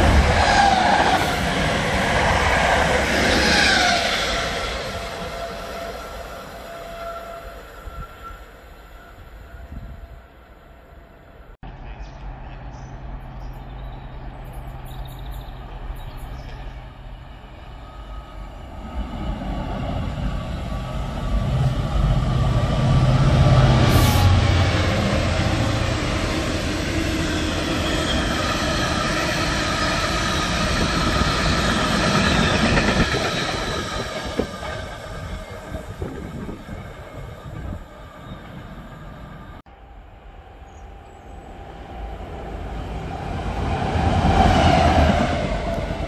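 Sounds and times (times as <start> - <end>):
diesel locomotive engine drone: 0.0 - 46.0.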